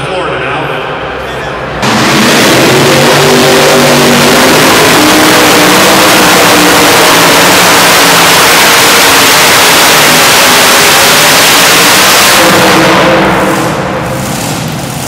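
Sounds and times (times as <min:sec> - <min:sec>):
tractor engine roaring: 0:00.0 - 0:15.0.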